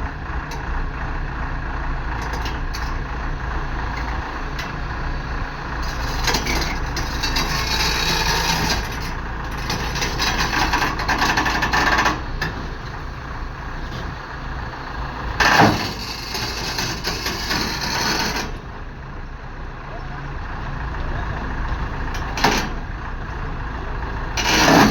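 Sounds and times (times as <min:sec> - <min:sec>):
excavator engine rumble: 0:00.0 - 0:24.9
hissy excavator working noise: 0:00.0 - 0:24.9.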